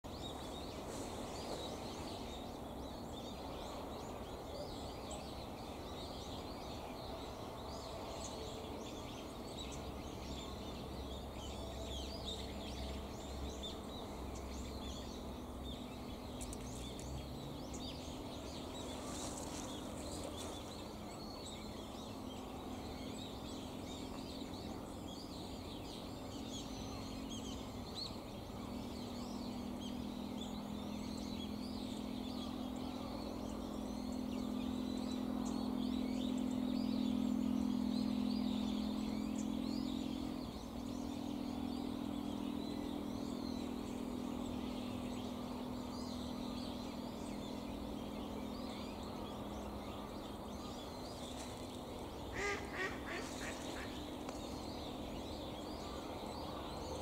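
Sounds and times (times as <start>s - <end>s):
small birds chirping: 0.0s - 57.0s
low hum and rumble: 0.1s - 57.0s.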